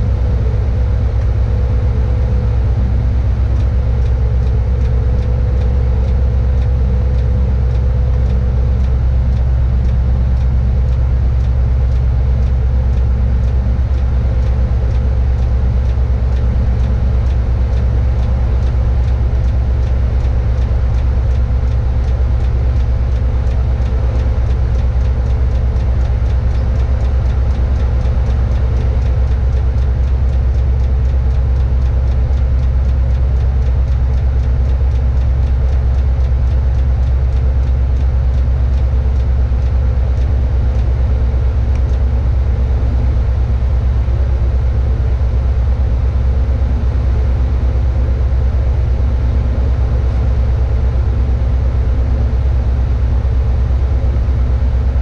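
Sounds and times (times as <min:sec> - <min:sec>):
diesel engine running: 0:00.0 - 0:55.0
faint regular ticking: 0:00.2 - 0:47.1.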